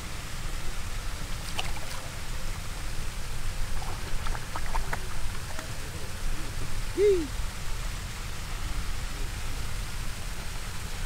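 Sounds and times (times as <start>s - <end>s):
rushing water: 0.2s - 11.0s.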